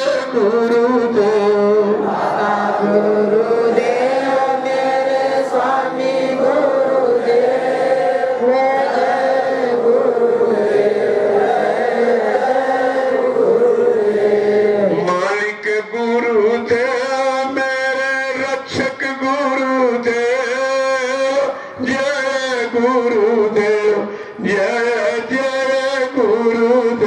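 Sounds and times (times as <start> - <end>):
devotional chanting: 0.0 - 27.0.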